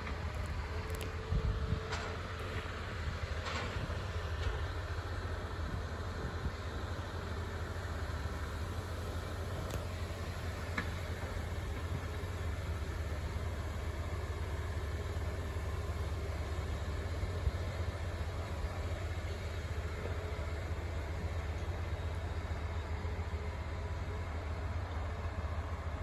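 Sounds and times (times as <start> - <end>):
heavy diesel equipment rumbling: 0.0 - 26.0.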